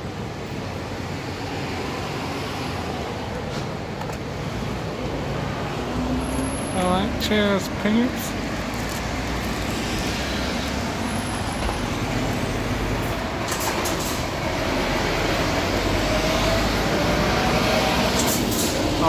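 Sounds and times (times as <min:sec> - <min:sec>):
passing vehicles rumble: 0:00.0 - 0:19.0.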